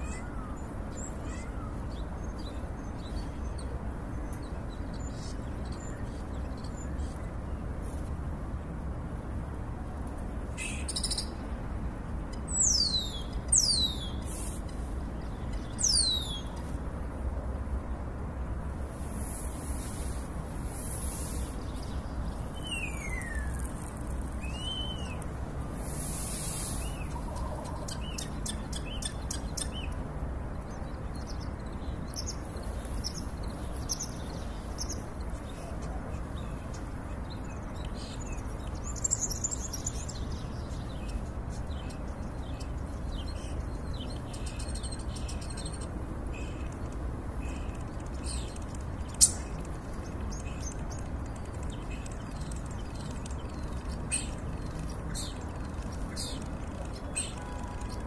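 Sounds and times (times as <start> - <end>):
low background noise: 0.0 - 58.0.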